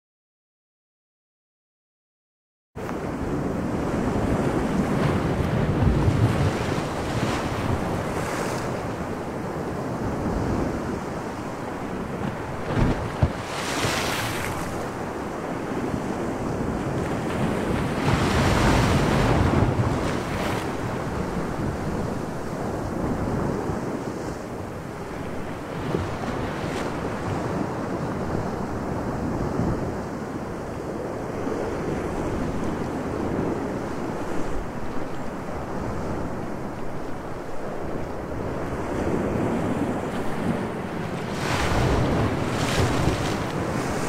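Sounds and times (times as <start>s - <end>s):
sea waves washing: 2.9s - 29.0s, 31.0s - 44.0s.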